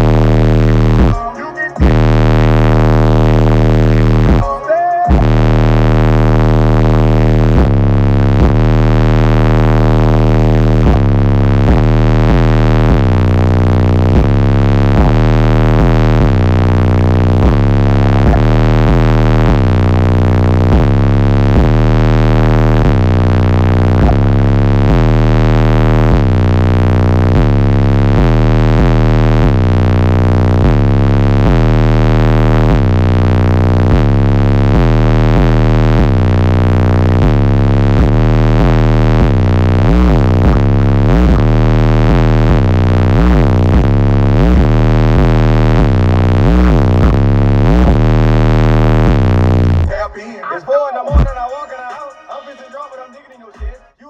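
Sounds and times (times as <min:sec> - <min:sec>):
bass-heavy music through subwoofers: 0:00.0 - 0:54.0.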